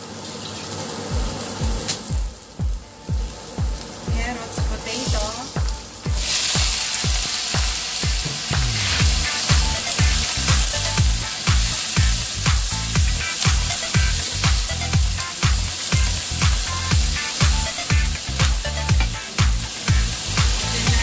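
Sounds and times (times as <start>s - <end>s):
vegetables sizzling in oil: 0.0s - 2.6s, 3.3s - 21.0s
dance music with kick drum: 1.1s - 21.0s.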